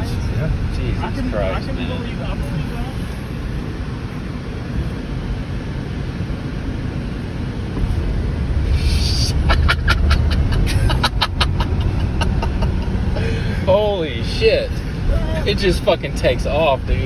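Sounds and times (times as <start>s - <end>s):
tyre and road noise: 0.0s - 17.0s.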